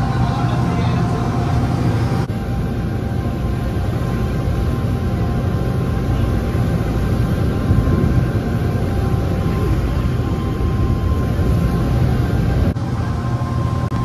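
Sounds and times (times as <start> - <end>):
boat engine running: 0.0 - 14.0
wind and water rushing: 0.0 - 14.0.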